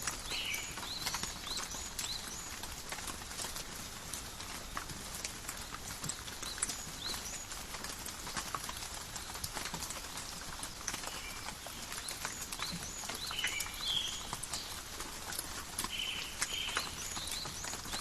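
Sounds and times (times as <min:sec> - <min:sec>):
rain dripping on leaves: 0:00.0 - 0:18.0.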